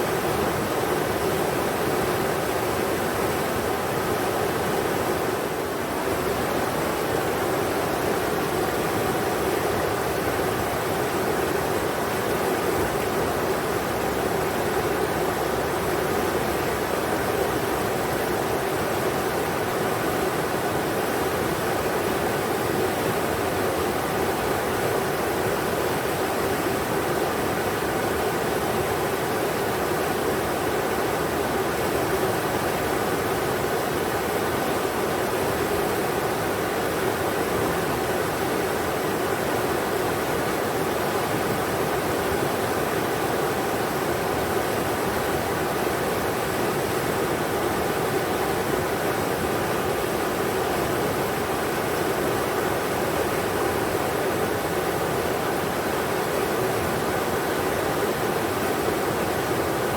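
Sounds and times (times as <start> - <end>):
river water rushing over rocks: 0.0 - 59.9.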